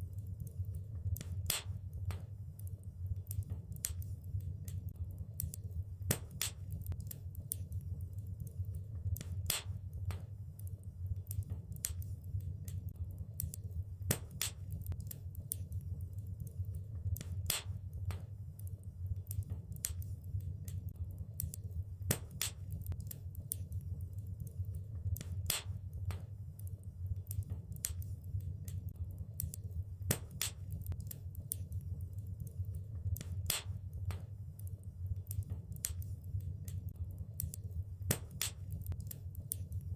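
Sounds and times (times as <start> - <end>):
fire snaps and pops: 0.0 - 39.9
low rumble of burning: 0.0 - 39.9
wood fire crackling: 0.0 - 39.9.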